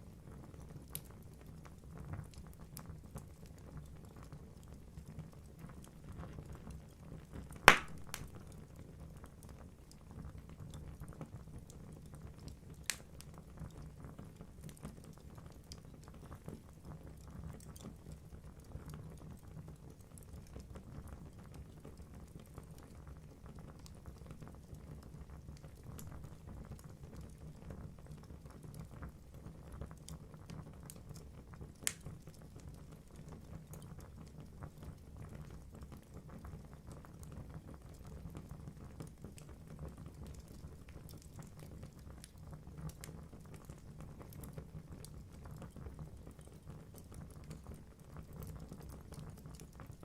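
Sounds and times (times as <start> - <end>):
logs burning in fireplace: 0.0 - 50.0.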